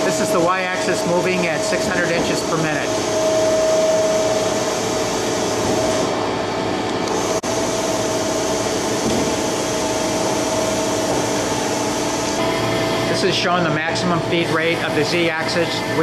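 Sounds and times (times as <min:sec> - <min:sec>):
machine whine: 0:00.0 - 0:16.0
machine whirr: 0:00.0 - 0:16.0.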